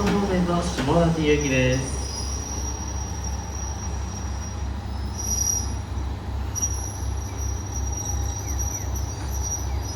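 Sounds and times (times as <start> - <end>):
diesel railcar engine rumbling: 0.0 - 9.9.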